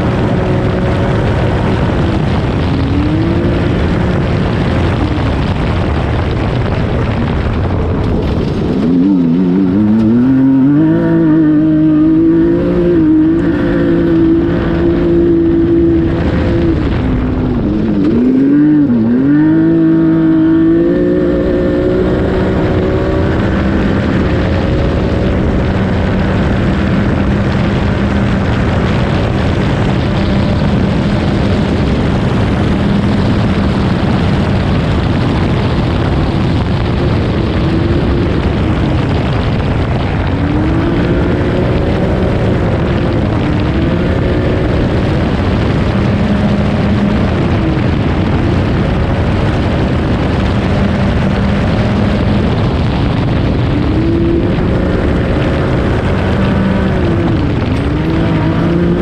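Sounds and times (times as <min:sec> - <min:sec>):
gravel road noise: 0:00.0 - 0:59.0
rally car engine revving: 0:00.0 - 0:59.0
wind noise: 0:00.0 - 0:59.0.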